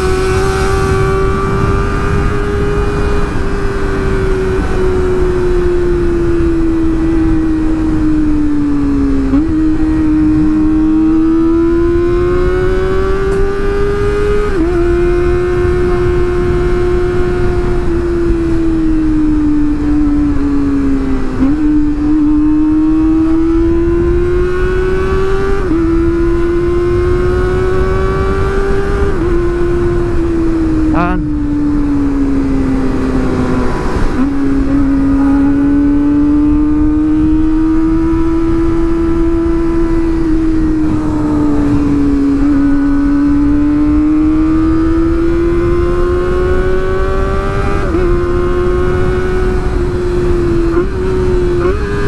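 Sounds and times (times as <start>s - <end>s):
motorcycle engine shifting gears: 0.0s - 52.0s
wind rushing over microphone: 0.0s - 52.0s.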